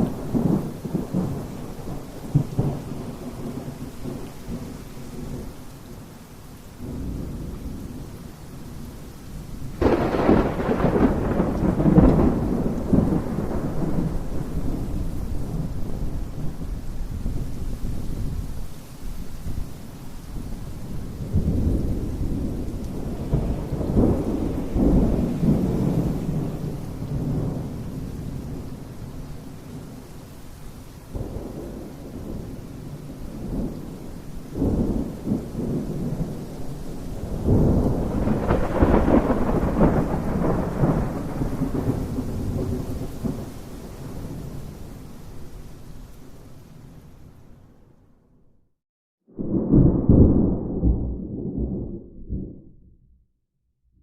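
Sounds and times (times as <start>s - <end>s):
thunder rumbling: 0.0s - 6.1s, 6.7s - 18.8s, 19.4s - 30.3s, 31.1s - 46.0s, 49.4s - 53.2s
steady rain: 0.0s - 48.1s.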